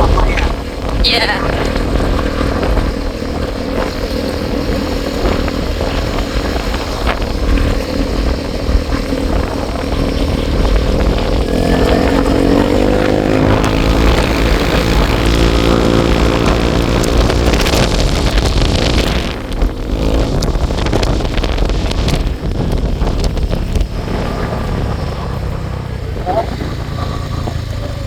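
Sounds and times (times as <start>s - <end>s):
motorcycle engine running: 0.0s - 28.0s
wind rumbling on microphone: 0.0s - 28.0s.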